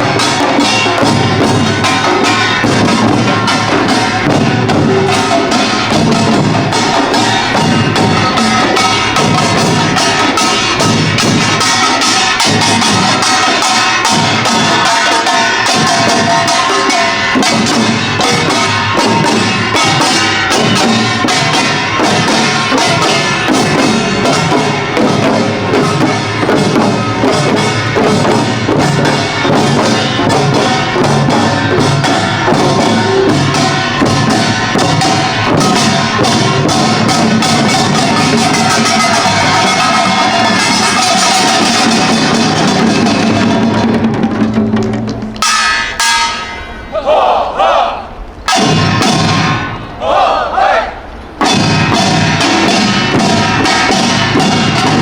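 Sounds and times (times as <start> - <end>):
fast dense drumming: 0.0 - 46.2, 51.4 - 55.0
small gongs clanging: 0.0 - 47.0, 48.4 - 49.9, 51.4 - 55.0.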